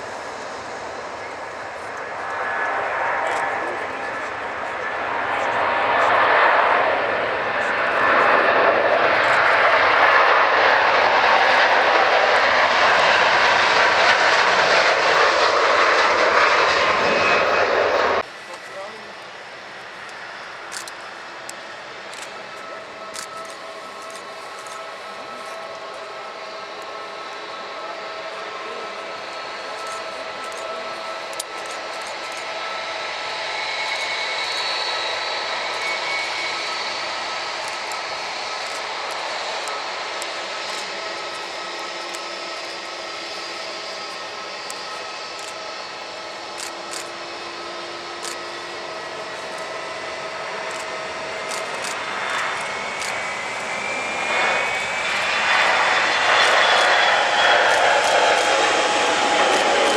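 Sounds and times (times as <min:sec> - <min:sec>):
airliner engines: 0:00.0 - 0:59.9.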